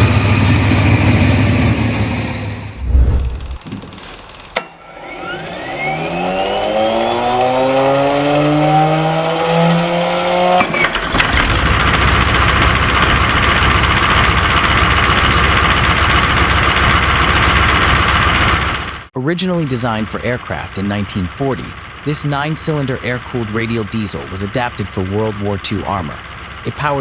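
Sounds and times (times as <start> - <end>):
diesel engine running roughly: 0.0 - 27.0
starter whine rising: 0.0 - 27.0.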